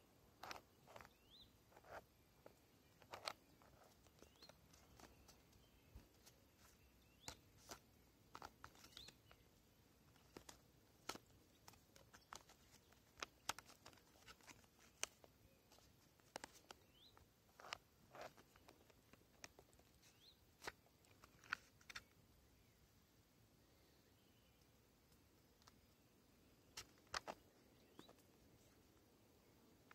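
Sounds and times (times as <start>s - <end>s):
faint clicks and taps of wooden wallet: 0.4s - 22.2s, 24.4s - 29.9s.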